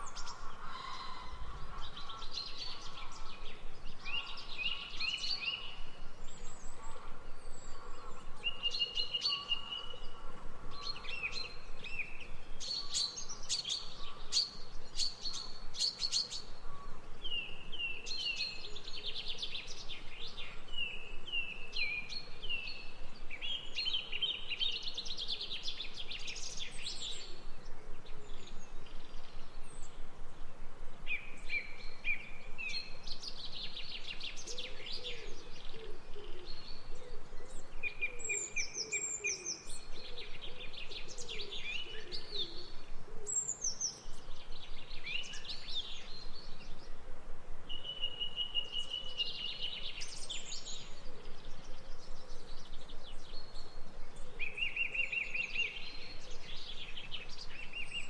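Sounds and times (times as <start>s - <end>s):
songbirds trilling and whistling: 0.0s - 47.0s, 47.6s - 58.0s
steady background hiss: 0.0s - 58.0s.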